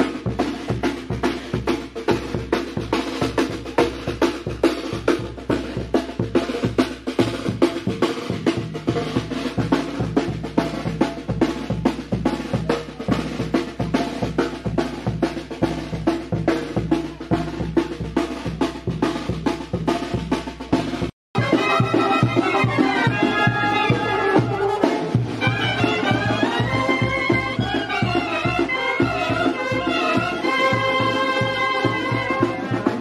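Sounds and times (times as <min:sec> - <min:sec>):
snare and bass drum beat: 0:00.0 - 0:33.0.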